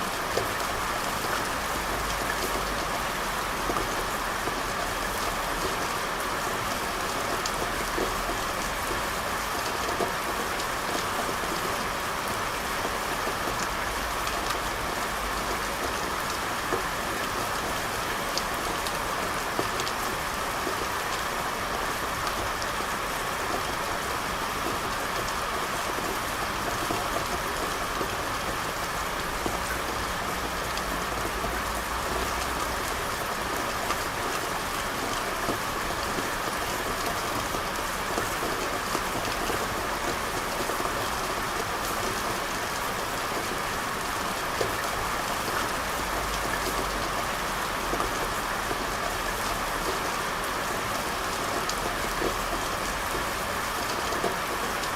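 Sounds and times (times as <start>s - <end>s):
rain on hard surfaces: 0.0s - 54.9s.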